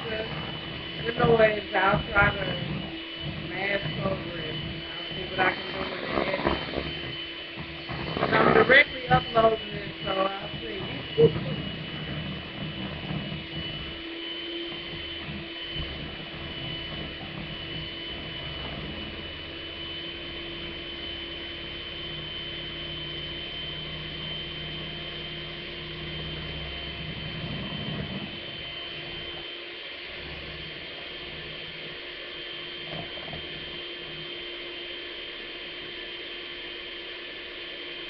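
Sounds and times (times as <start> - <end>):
beater churning in a bowl: 0.0 - 38.0
hand mixer motor whine: 0.0 - 38.0.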